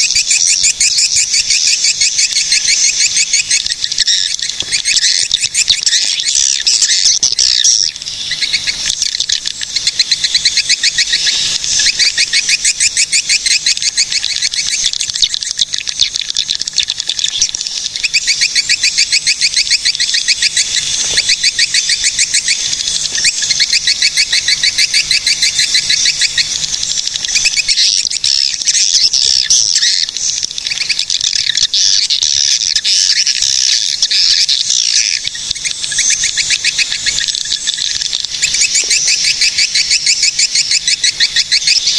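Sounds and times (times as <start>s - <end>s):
swiftlets twittering: 0.0s - 41.9s.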